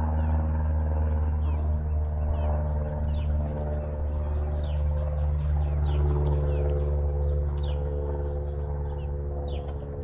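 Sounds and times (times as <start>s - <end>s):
low mechanical hum: 0.0s - 10.0s
small birds chirping: 0.0s - 10.0s.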